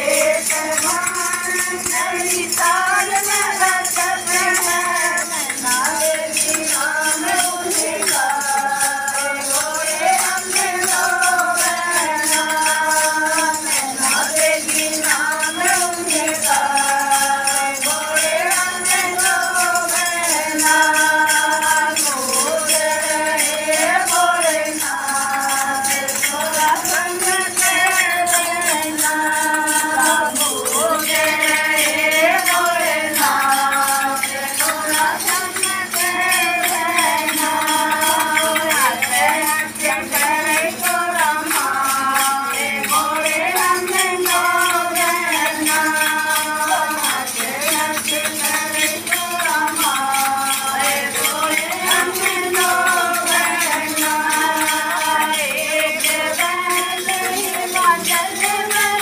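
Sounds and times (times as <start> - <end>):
jingling tambourine-like percussion: 0.0 - 59.0.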